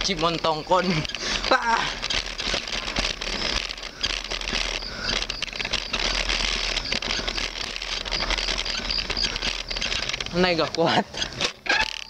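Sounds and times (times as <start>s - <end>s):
bicycle rolling over rough concrete: 0.0s - 12.0s.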